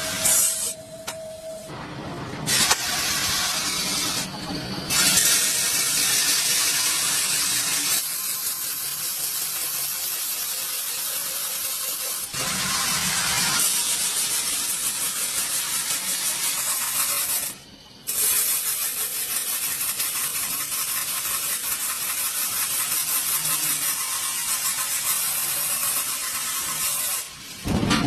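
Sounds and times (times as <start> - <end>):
loud steady hiss: 2.5 - 27.9.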